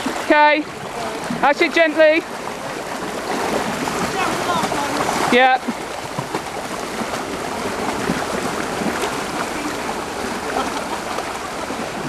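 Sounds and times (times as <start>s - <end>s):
cows splashing through water: 0.0s - 12.0s
floodwater rushing: 0.0s - 12.0s.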